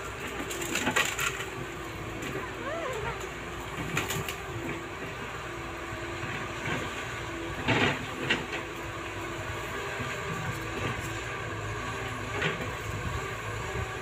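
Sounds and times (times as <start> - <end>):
excavator engine drone: 0.0 - 14.0.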